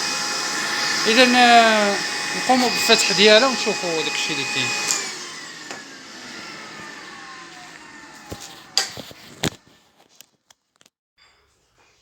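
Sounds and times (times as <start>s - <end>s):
vacuum cleaner motor winding down: 0.0s - 9.7s.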